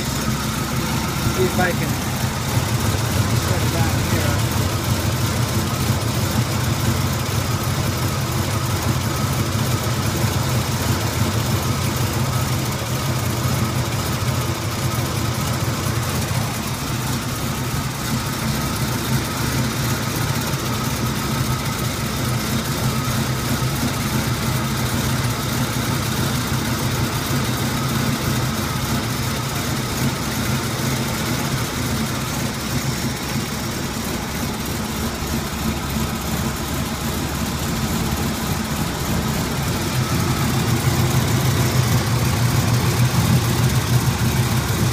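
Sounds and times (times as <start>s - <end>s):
engine idling rough: 0.0s - 44.9s.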